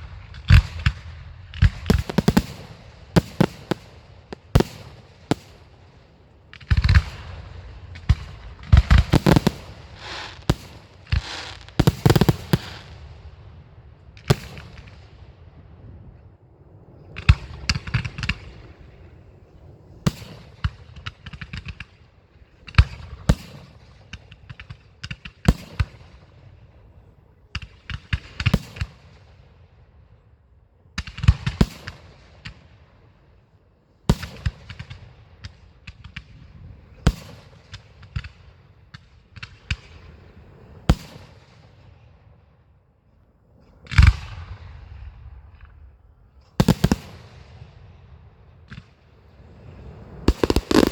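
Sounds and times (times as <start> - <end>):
fireworks bangs and crackling: 0.0 - 15.8, 16.8 - 29.6, 31.0 - 32.8, 34.1 - 42.0, 43.8 - 50.9.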